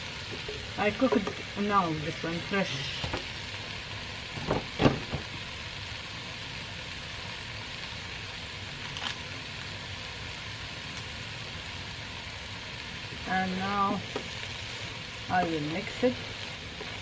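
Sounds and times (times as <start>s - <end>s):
rice sizzling in a pan: 0.0s - 17.0s.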